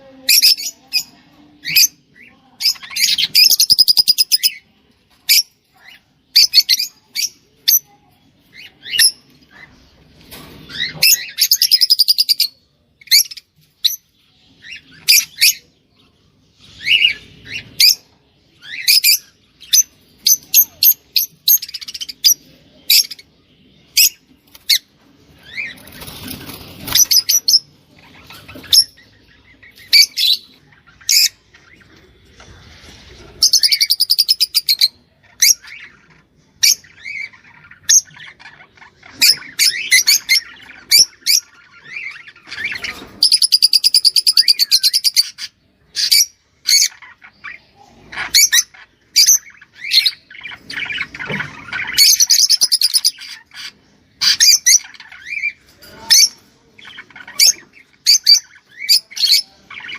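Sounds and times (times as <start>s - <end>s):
cage birds chirping and singing: 0.0s - 59.9s.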